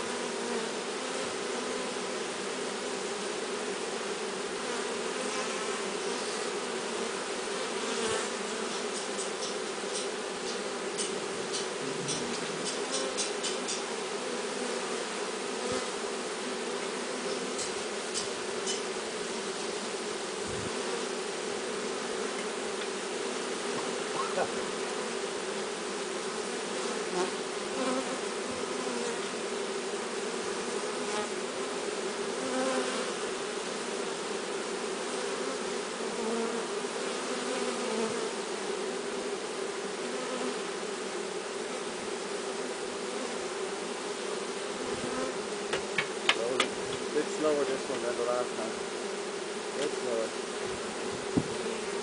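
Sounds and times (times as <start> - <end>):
bee swarm buzzing: 0.0 - 52.0.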